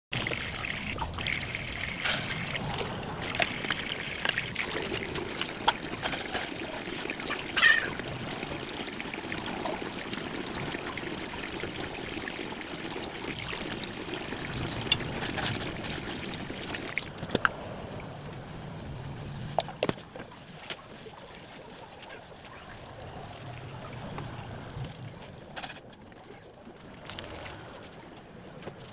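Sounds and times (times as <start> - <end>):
water trickling and sloshing: 0.1 - 28.9.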